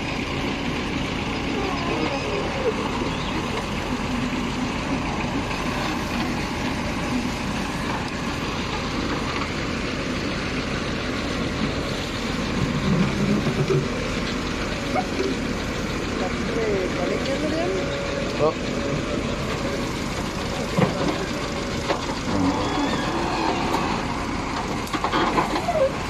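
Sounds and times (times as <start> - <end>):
heavy machine engine running: 0.0 - 26.0
voices talking: 0.0 - 26.0.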